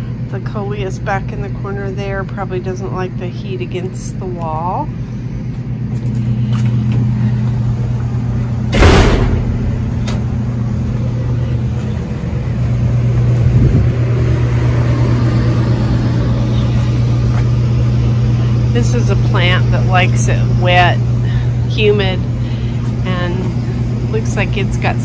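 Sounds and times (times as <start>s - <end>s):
air conditioning units humming: 0.0s - 25.0s.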